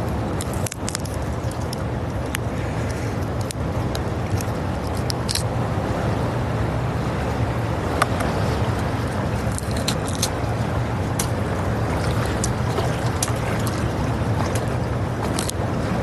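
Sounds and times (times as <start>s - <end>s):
surf: 0.0s - 16.0s
wind buffeting microphone: 0.0s - 16.0s.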